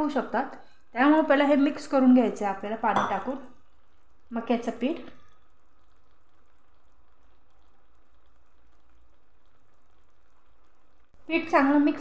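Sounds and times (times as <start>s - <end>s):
food simmering hiss: 0.0s - 12.0s.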